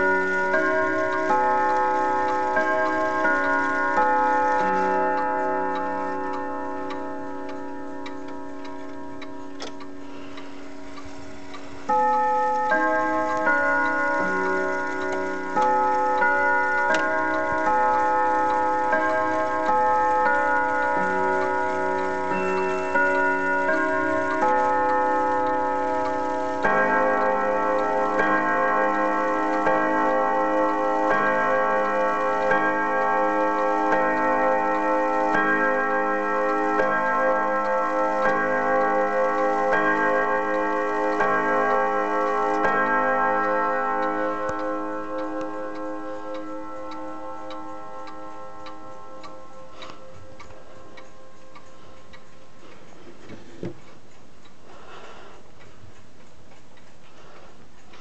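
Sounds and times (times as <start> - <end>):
clock striking gong rods: 0.0 - 58.0
clock ticking: 0.0 - 58.0.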